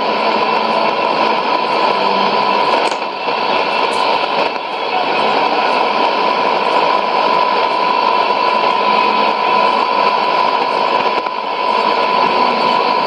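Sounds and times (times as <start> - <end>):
radio hiss and static: 0.0 - 13.0.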